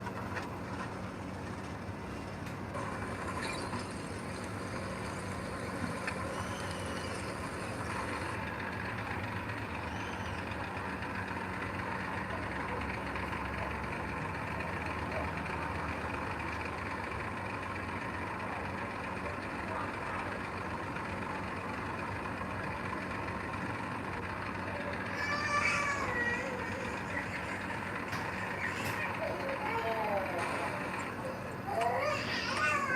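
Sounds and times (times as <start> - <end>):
heavy diesel machinery running: 0.0 - 32.9.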